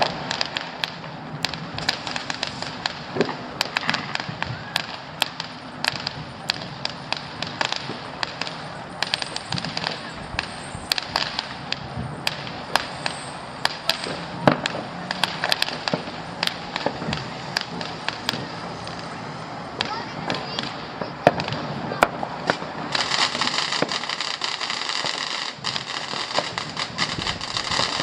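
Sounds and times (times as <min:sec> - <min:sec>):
background hiss: 0:00.0 - 0:28.0
distant fireworks bangs: 0:00.0 - 0:28.0.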